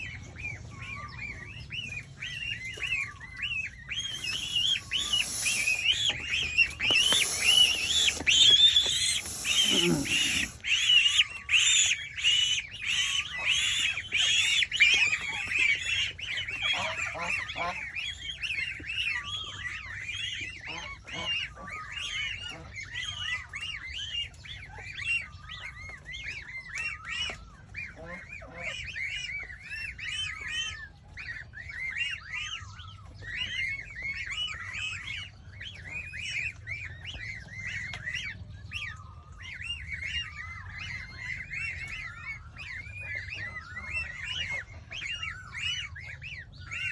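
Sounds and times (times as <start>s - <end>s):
goslings peeping: 0.0s - 46.9s.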